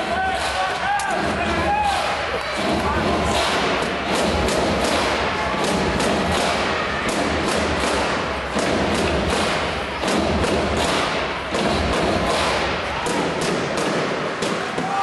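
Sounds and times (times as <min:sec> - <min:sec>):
crowd noise: 0:00.0 - 0:15.0
sharp echoing thumps and bangs: 0:02.4 - 0:15.0.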